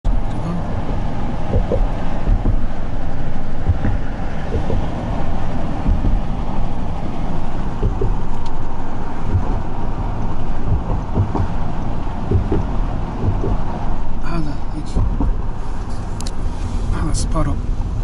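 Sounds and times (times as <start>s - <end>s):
car engine: 0.0s - 18.0s
tyre and road noise: 0.0s - 18.0s.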